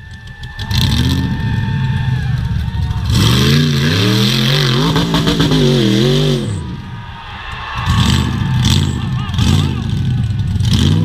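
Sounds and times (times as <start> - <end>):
buggy engine revving: 0.0 - 7.0, 7.8 - 11.0.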